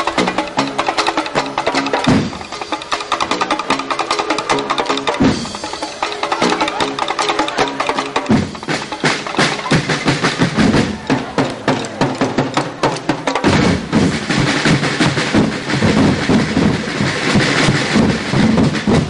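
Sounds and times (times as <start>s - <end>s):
percussion-driven dance music: 0.0s - 19.0s.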